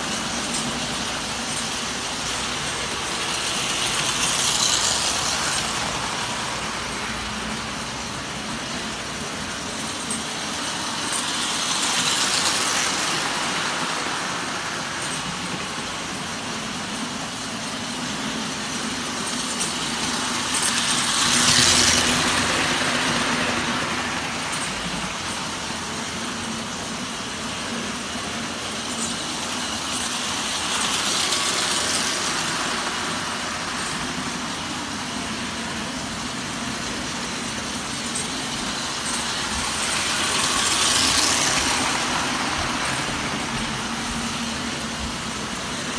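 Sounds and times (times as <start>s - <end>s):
toy train wheels clattering on track: 0.0s - 45.9s.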